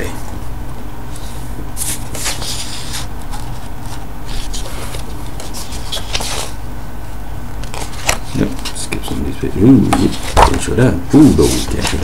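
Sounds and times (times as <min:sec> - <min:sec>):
steady low hum: 0:00.0 - 0:12.0
comic book pages rustling: 0:01.1 - 0:06.6, 0:07.6 - 0:12.0.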